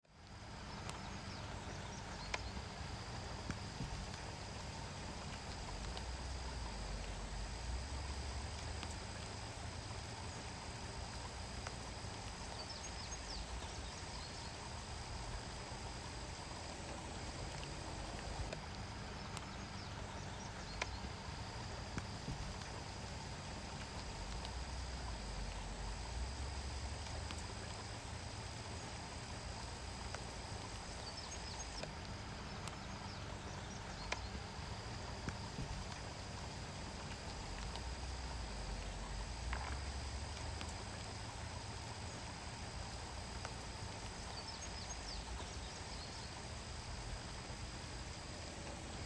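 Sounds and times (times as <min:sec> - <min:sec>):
high insect drone: 0:00.0 - 0:49.0
faint clicks: 0:00.1 - 0:49.0.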